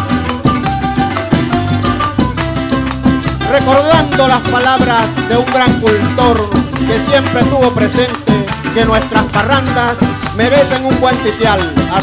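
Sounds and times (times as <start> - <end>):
barrel drum beat: 0.0 - 12.0
electric bass: 0.0 - 12.0
mandolin: 0.0 - 12.0
maracas shaking: 0.0 - 12.0
strummed string instruments: 0.0 - 12.0.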